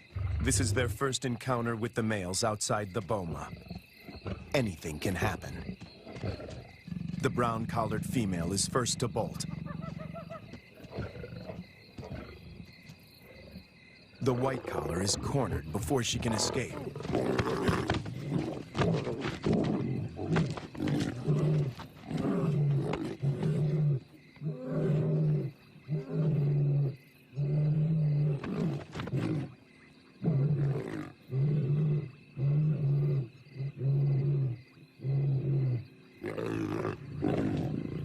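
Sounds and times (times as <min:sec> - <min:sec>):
lions deep growls: 0:00.0 - 0:01.0, 0:03.1 - 0:29.6, 0:30.2 - 0:38.0
lions snarling: 0:00.0 - 0:01.0, 0:03.1 - 0:29.6, 0:30.2 - 0:38.0.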